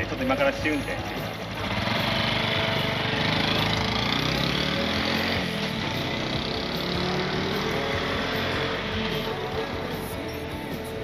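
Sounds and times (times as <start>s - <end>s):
motorcycle engine revving: 1.0s - 10.9s.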